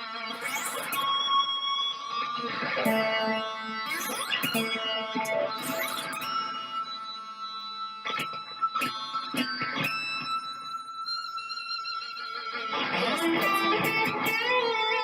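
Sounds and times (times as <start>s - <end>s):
distorted electric guitar: 0.0s - 15.0s.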